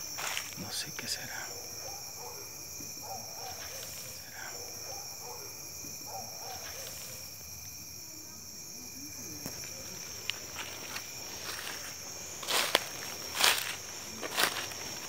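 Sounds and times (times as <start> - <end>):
crickets and cicadas trilling: 0.0 - 15.0
faint short insect calls: 0.0 - 15.0.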